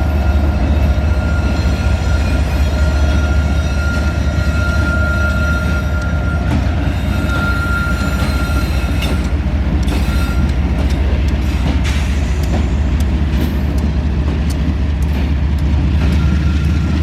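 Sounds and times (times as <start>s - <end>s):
freight train rumbling: 0.0s - 17.0s
wheels clicking on rails: 0.0s - 17.0s.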